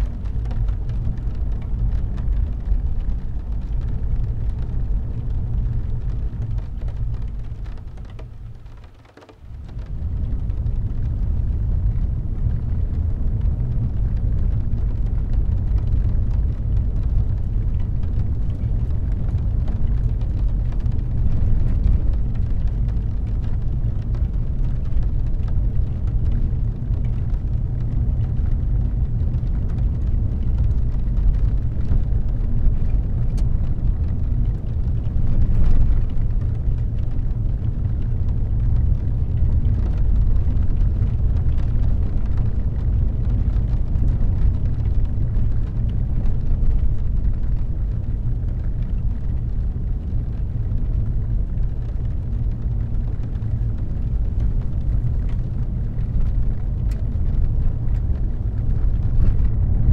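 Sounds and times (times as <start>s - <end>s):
car driving on wet road: 0.0s - 59.9s.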